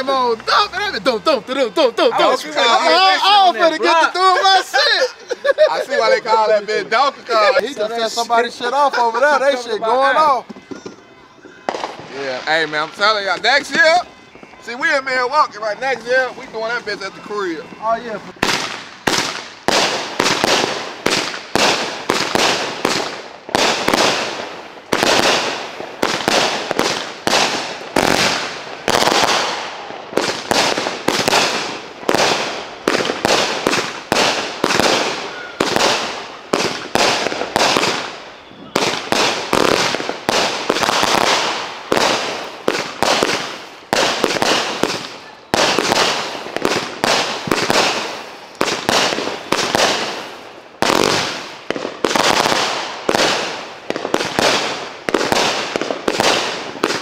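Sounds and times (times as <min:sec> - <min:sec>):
firework bangs: 0:00.0 - 0:57.0
firework crackle: 0:00.0 - 0:57.0.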